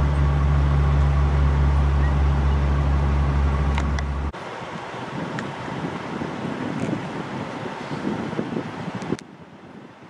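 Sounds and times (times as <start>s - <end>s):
low engine hum: 0.0s - 8.4s
faint wind-like noise: 0.0s - 10.0s.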